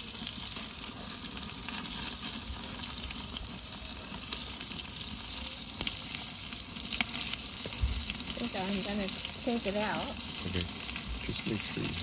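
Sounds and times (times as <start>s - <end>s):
steak sizzling and crackling: 0.0s - 12.0s.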